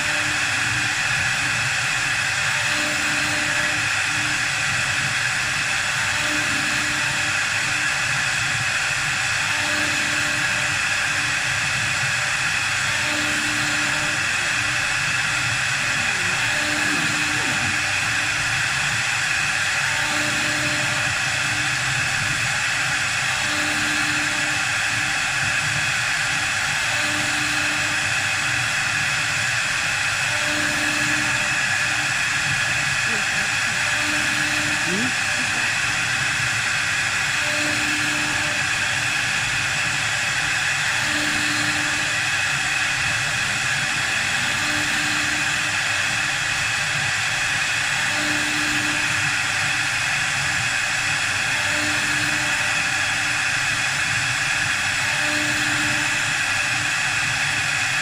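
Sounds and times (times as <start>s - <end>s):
wood lathe hiss and whine: 0.0s - 58.0s.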